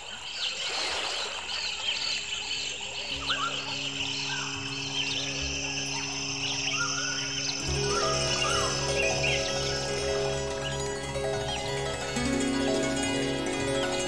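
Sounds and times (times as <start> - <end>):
bird and insect chirps: 0.0 - 14.0
low ambient music drone: 2.4 - 14.0.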